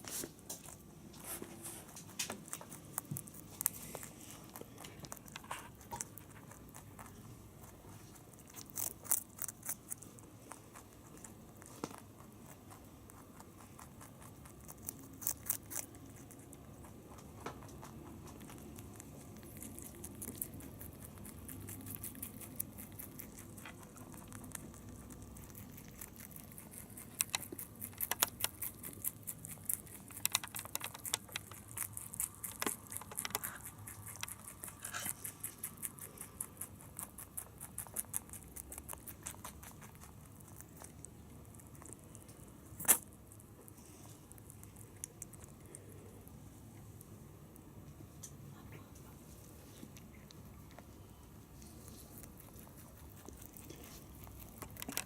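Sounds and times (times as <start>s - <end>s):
rabbit chewing carrot: 0.0s - 55.0s.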